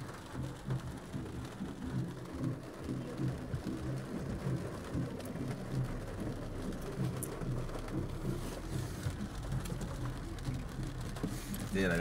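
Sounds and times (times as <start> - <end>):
rain pattering on a car: 0.0 - 12.0.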